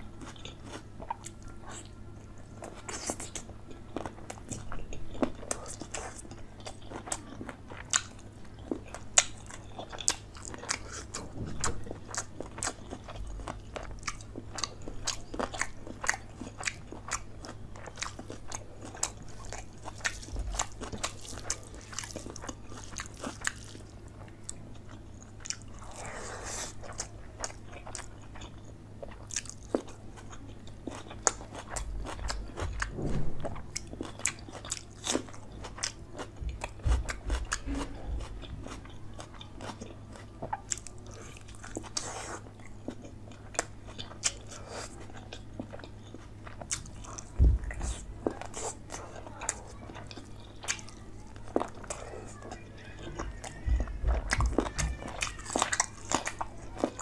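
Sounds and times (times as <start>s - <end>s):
biting and chewing food: 0.0s - 57.0s.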